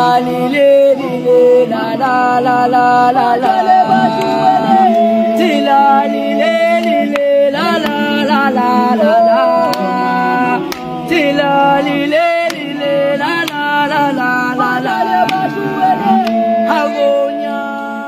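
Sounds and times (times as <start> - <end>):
men singing a cappella: 0.0 - 18.0.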